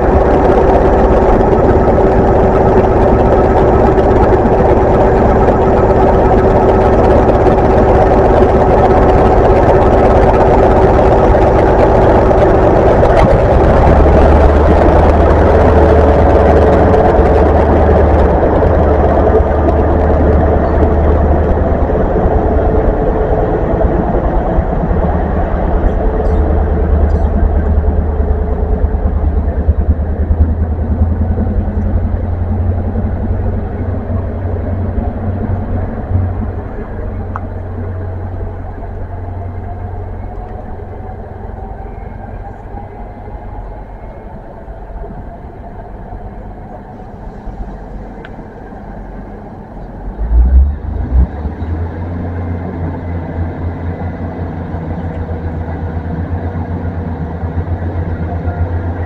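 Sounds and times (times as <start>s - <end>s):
diesel train engine humming: 0.0s - 59.0s
faint rising whine: 0.0s - 59.0s.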